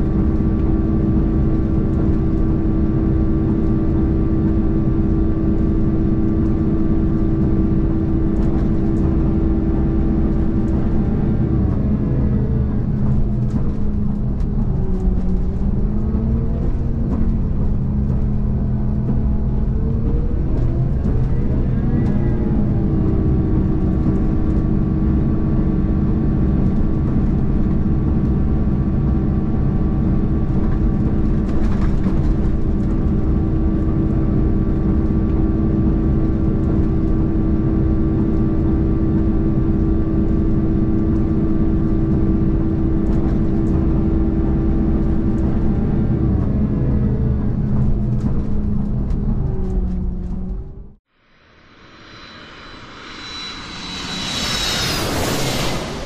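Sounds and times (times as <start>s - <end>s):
diesel railcar engine: 0.0s - 56.0s
low running rumble: 0.0s - 56.0s.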